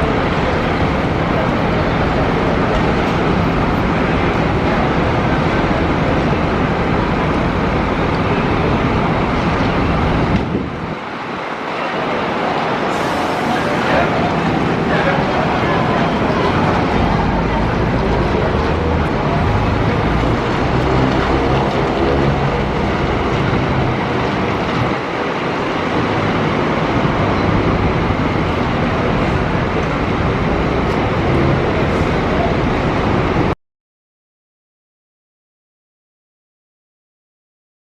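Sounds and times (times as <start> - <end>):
coach engine and road rumble: 0.0 - 33.6.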